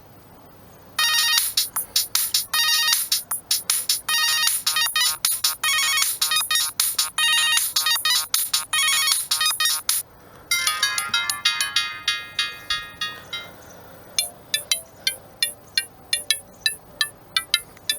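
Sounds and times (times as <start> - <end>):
beeping phone ringtone melody: 1.0 - 17.9
different ringtone: 1.0 - 17.9.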